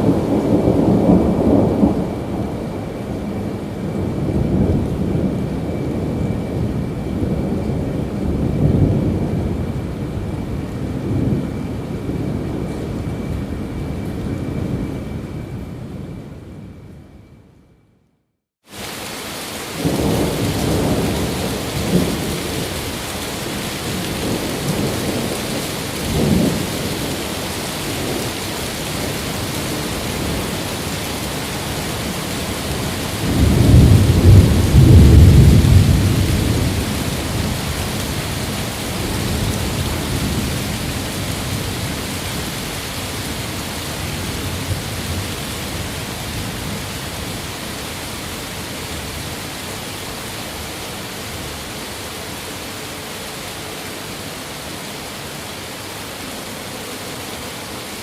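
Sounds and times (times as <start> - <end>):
heavy rain: 0.0 - 16.8, 18.6 - 58.0
rolling thunder: 0.0 - 17.3, 19.5 - 49.3.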